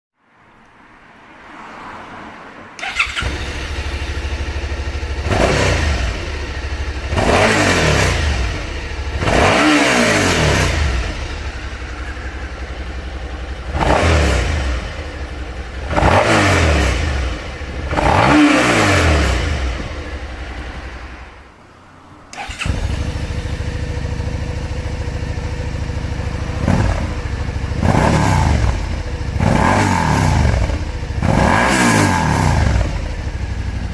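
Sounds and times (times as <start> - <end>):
motorcycle engine revving: 2.8 - 21.4, 22.3 - 33.9.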